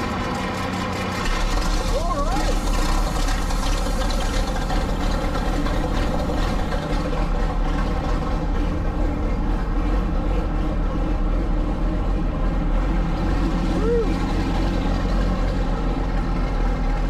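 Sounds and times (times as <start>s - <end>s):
truck engine running steadily: 0.0s - 17.0s.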